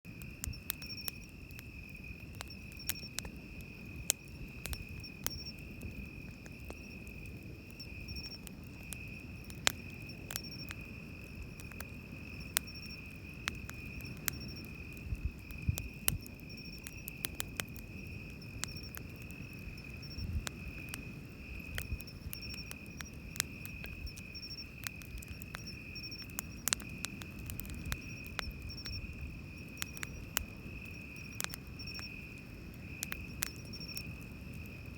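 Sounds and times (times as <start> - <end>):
campfire crackling and popping: 0.1 - 34.9
insect trilling steadily: 0.1 - 34.9
high insect chirping: 0.2 - 34.9.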